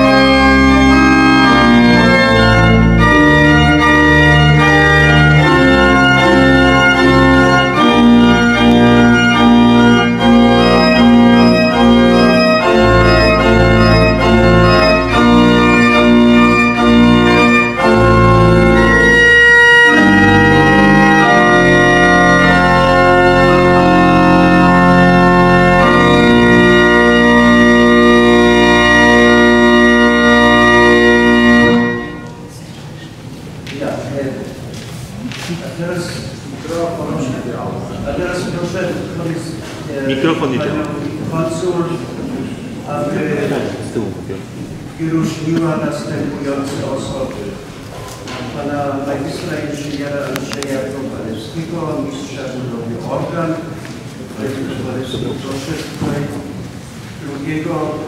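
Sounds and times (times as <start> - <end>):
pipe organ playing chords: 0.0 - 33.6, 34.4 - 58.0.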